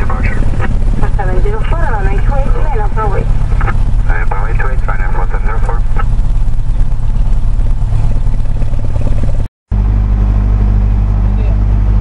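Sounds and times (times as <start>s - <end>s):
airplane engine and propeller running: 0.0s - 12.0s.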